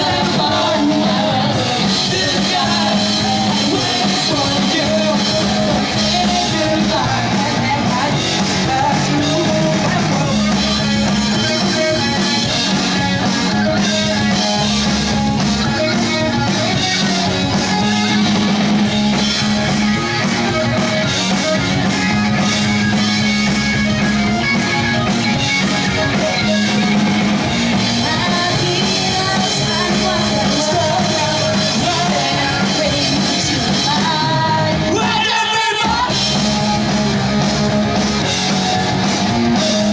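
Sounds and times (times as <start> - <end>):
sung vocals: 0.0 - 23.5, 24.3 - 39.9
live pop-punk band: 0.0 - 39.9.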